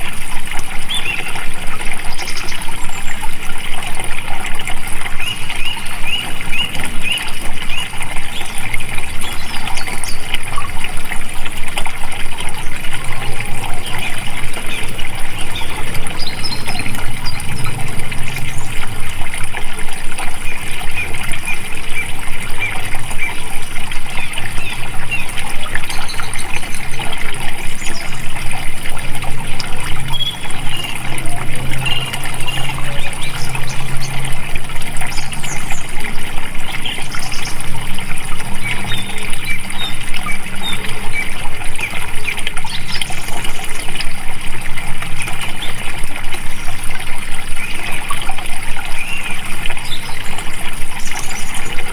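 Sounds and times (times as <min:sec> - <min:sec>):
stream water babbling: 0:00.0 - 0:51.9.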